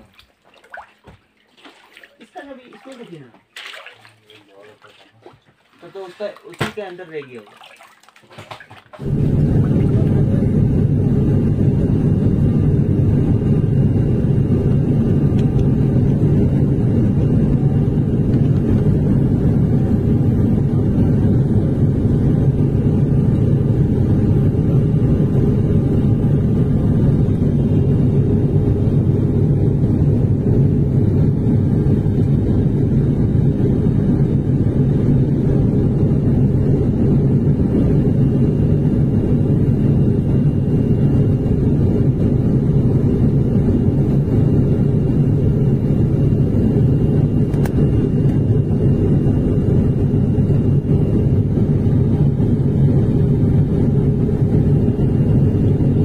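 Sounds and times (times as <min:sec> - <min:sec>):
airliner cabin drone: 0:09.0 - 0:56.0.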